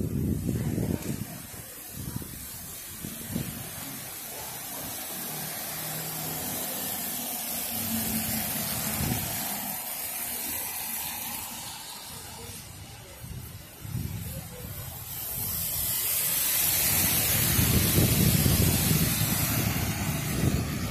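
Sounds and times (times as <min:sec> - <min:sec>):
background wet traffic hiss: 0:00.0 - 0:20.9
car tyres hissing on wet road: 0:00.0 - 0:20.9.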